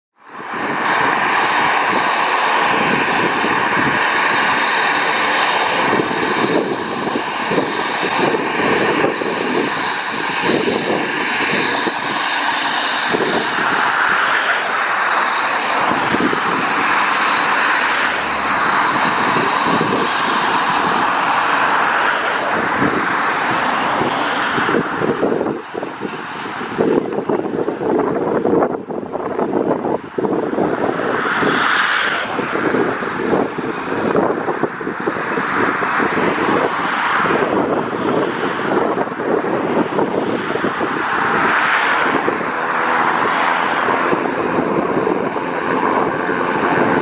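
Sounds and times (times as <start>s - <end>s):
propeller noise: 0.1s - 47.0s
turbine whine: 0.2s - 47.0s.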